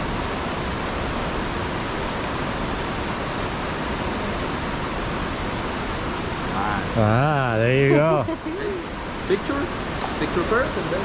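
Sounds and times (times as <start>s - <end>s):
water rushing in river cascade: 0.0s - 11.0s.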